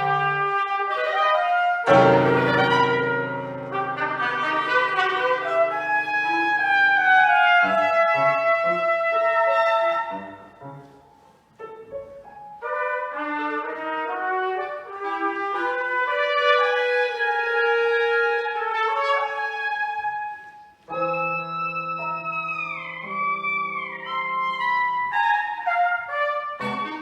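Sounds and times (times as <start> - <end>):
trumpet: 0.0 - 10.9, 12.6 - 27.0
clarinet: 0.0 - 27.0
piano: 0.0 - 27.0.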